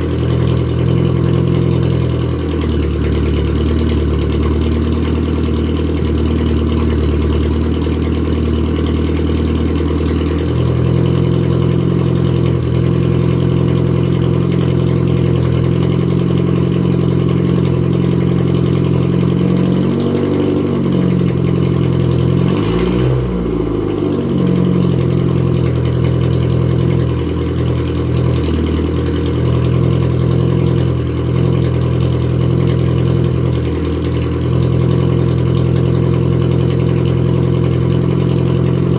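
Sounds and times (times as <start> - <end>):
car engine idling: 0.0 - 38.9
engine throttle blips: 0.0 - 38.9.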